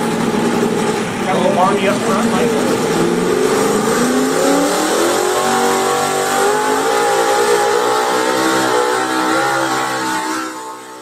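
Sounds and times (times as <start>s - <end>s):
truck engine at full throttle: 0.0s - 11.0s.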